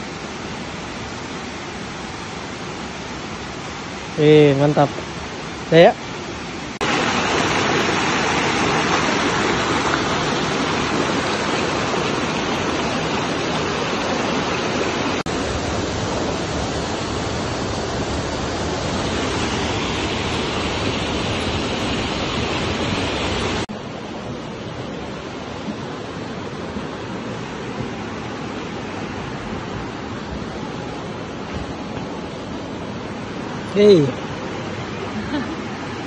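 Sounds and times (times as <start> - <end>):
rush of flowing stream water: 0.0 - 36.0.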